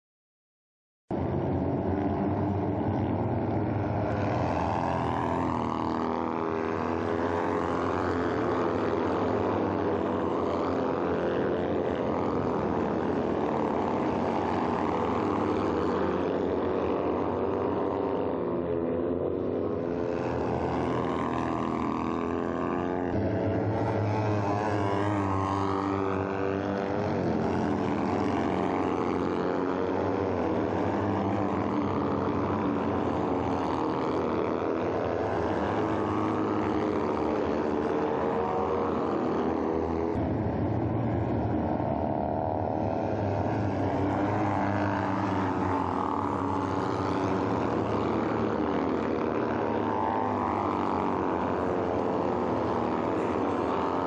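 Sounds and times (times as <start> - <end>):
racing buggy engines revving: 1.1 - 54.0.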